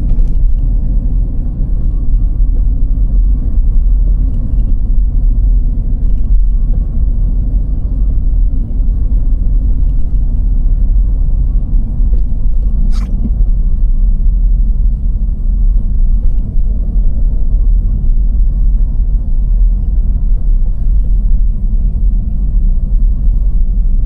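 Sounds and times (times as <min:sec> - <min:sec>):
car driving rumble inside: 0:00.0 - 0:24.0.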